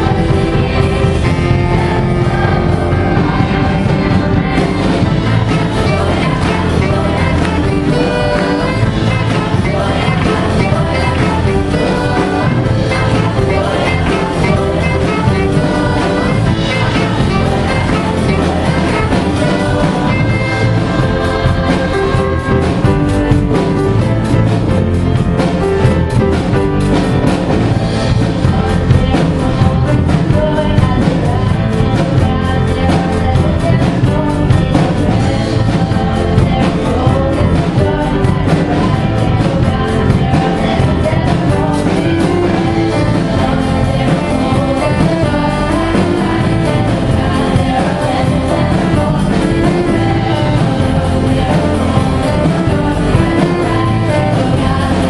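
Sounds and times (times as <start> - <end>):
singers with instrumental backing: 0.0 - 55.0.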